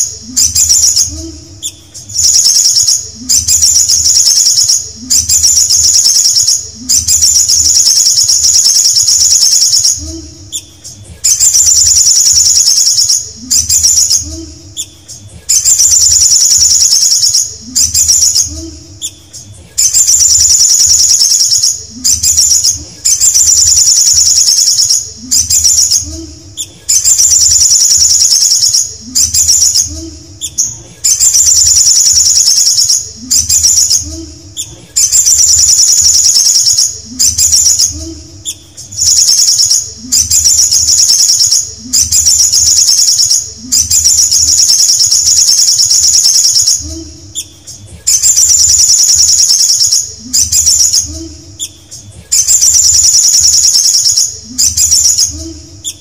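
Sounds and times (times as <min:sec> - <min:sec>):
sunbird singing trilled phrases: 0:00.0 - 0:10.7, 0:11.3 - 0:19.2, 0:19.8 - 0:26.2, 0:26.9 - 0:51.8, 0:52.4 - 0:56.0.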